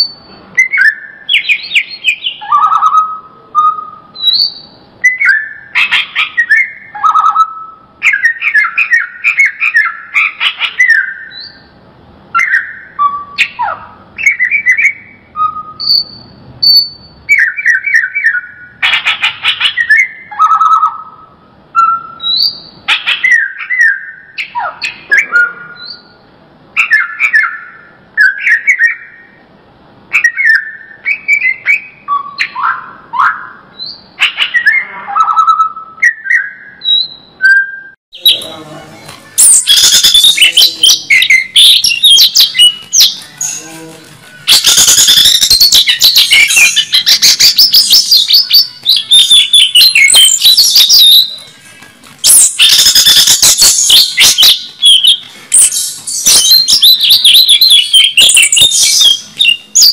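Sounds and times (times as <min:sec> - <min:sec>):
bird singing whistled phrases: 0:00.0 - 0:11.7, 0:12.3 - 0:18.8, 0:19.5 - 0:26.2, 0:26.8 - 0:29.4, 0:30.1 - 0:38.6, 0:39.3 - 0:43.7, 0:44.3 - 0:51.6, 0:52.2 - 0:59.9
bird rapid high chattering song: 0:00.0 - 0:29.4, 0:30.0 - 0:37.4, 0:38.2 - 0:59.9.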